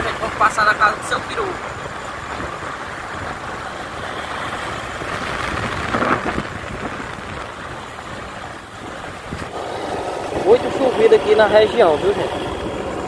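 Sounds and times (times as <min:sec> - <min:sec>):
vehicle engine and road noise: 0:00.0 - 0:13.0
wind rushing over microphone: 0:00.0 - 0:13.0.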